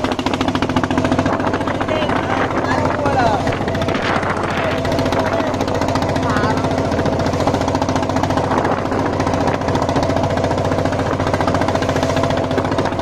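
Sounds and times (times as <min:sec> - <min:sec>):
boat engine running steadily: 0:00.0 - 0:13.0.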